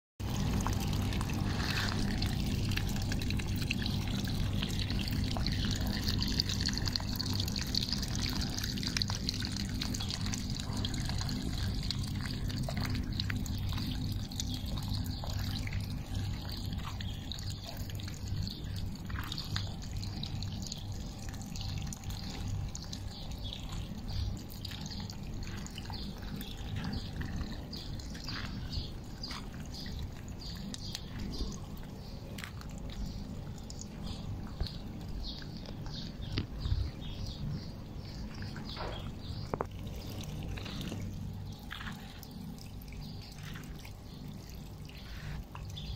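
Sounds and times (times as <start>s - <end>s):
steady low hum: 0.2s - 45.9s
water pouring from garden hose: 0.2s - 45.9s.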